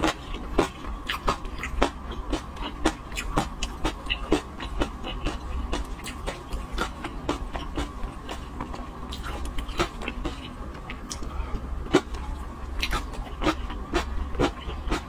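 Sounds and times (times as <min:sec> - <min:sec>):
steady low hum: 0:00.0 - 0:15.0
wet chewing and mouth clicks: 0:00.0 - 0:15.0.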